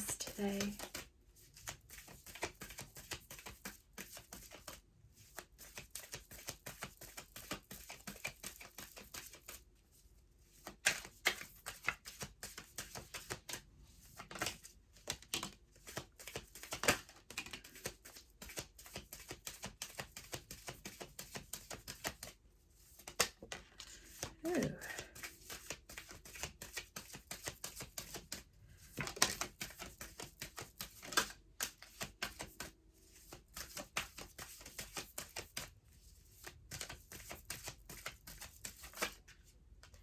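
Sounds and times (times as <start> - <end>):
cards being shuffled: 0.0 - 9.6, 10.5 - 35.7, 36.4 - 40.0.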